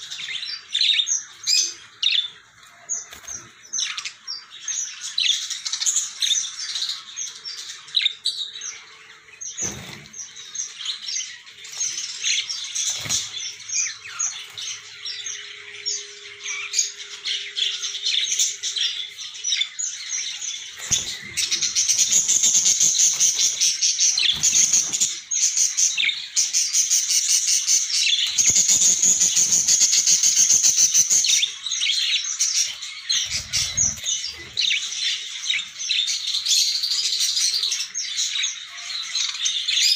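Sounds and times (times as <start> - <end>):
parakeets chirping and chattering: 0.0 - 39.9.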